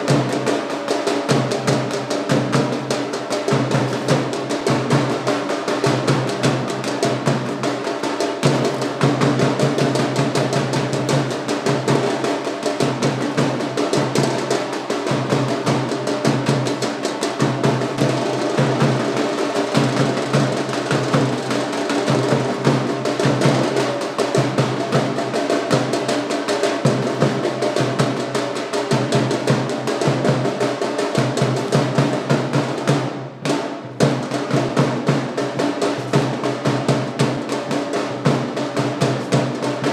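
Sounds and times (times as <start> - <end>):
fast drumming: 0.0 - 39.9.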